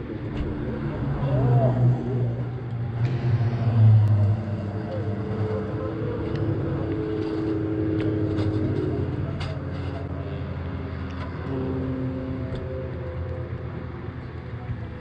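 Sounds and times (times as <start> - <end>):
racing engines running: 0.0 - 15.0.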